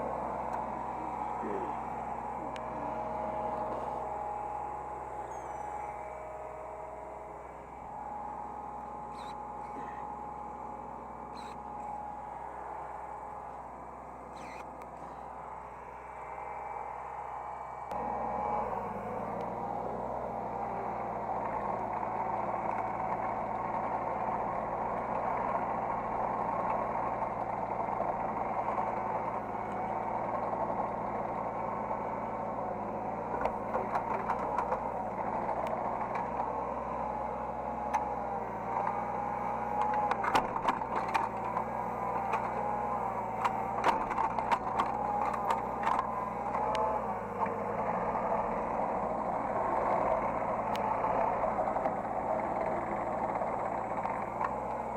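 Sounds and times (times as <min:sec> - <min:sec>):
diesel engine running: 0:00.0 - 0:54.9
hydraulic whine: 0:00.0 - 0:54.9.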